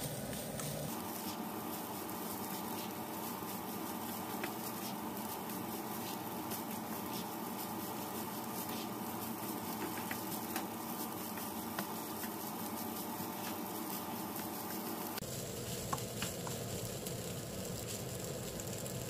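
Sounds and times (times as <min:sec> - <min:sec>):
rice sizzling in a wok: 0:00.0 - 0:19.0.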